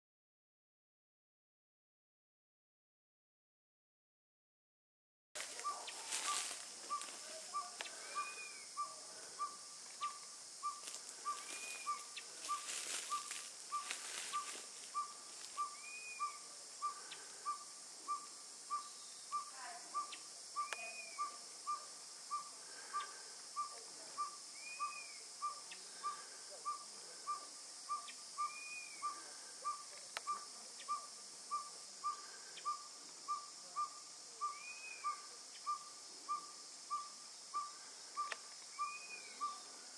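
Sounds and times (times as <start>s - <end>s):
owl tooting: 5.4s - 39.7s.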